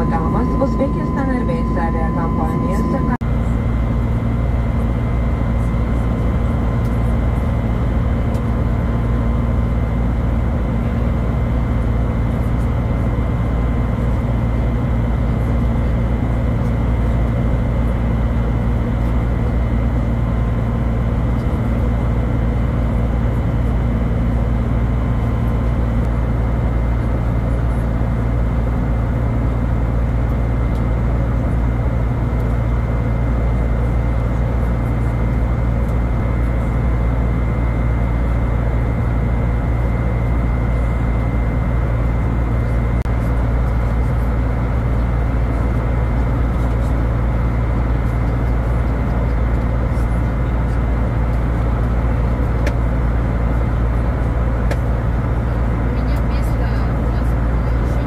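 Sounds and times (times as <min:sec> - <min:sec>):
airplane cabin engine rumble: 0:00.0 - 0:58.0
faint steady whine: 0:00.0 - 0:58.0.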